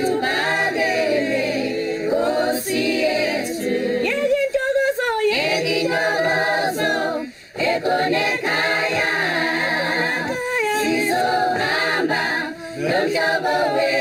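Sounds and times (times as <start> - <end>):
choir singing a cappella: 0.0 - 4.4, 5.3 - 14.0.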